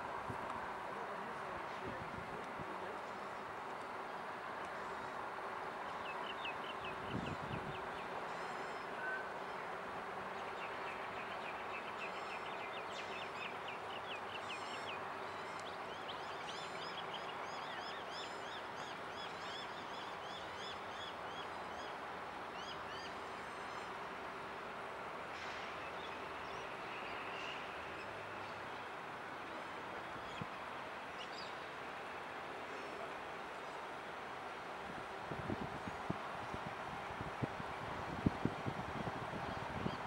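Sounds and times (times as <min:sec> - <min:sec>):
distant diesel locomotive drone: 0:00.0 - 0:40.0.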